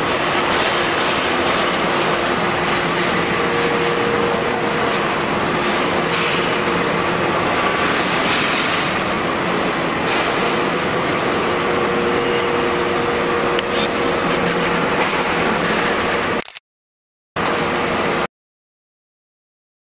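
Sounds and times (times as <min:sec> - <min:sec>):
machine whirring: 0:00.0 - 0:16.4.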